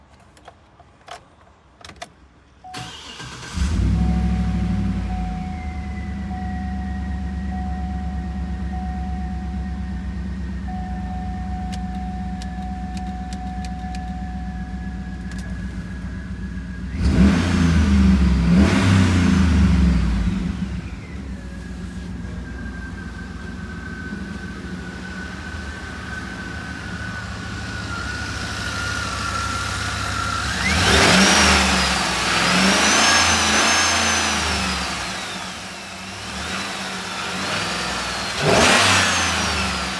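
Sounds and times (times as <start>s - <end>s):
car engine idling and revving: 1.8s - 39.9s.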